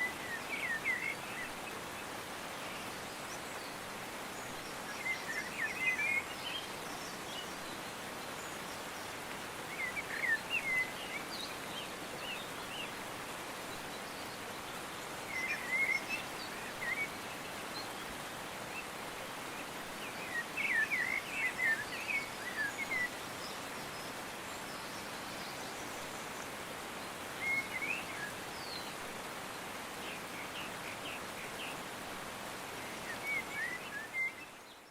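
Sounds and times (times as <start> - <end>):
steady background hiss: 0.0 - 34.9.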